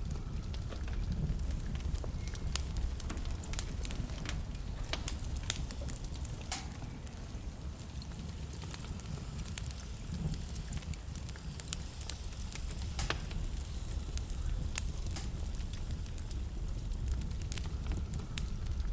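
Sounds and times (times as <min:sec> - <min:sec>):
wood fire burning: 0:00.0 - 0:18.9.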